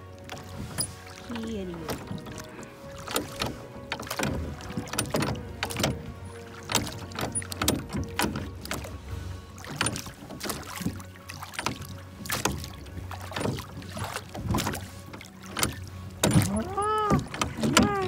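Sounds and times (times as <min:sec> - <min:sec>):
oars splashing in water: 0:00.0 - 0:18.0
wooden knocks and clicks: 0:01.9 - 0:09.0, 0:09.6 - 0:18.0.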